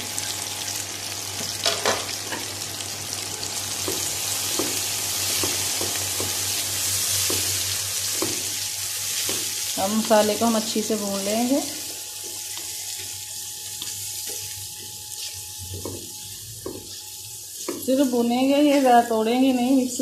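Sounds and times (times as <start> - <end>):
masala sizzling in hot oil: 0.0 - 20.0.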